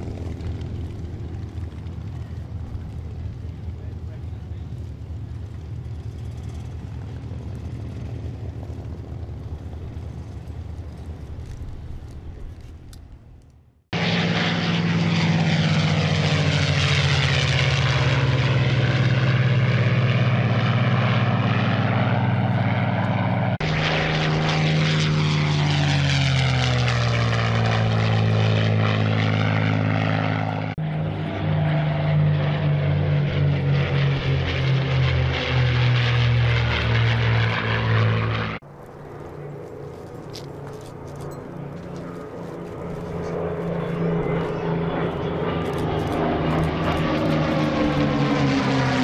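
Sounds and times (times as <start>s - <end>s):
propeller engine drone: 0.0s - 49.0s.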